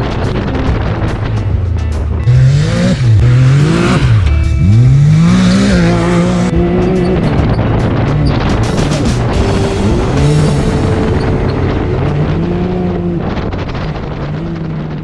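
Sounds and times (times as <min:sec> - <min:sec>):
background music: 0:00.0 - 0:14.2
engine revving hard: 0:02.2 - 0:15.0.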